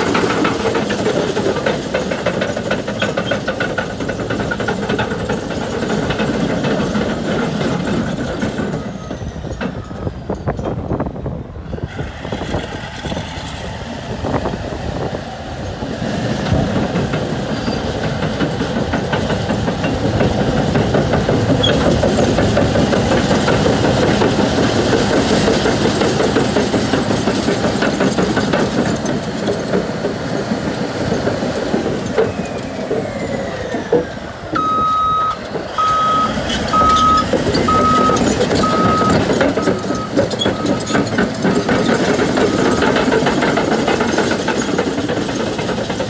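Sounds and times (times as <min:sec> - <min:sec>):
diesel engine running: 0:00.0 - 0:46.0
steel tracks clanking: 0:00.0 - 0:46.0.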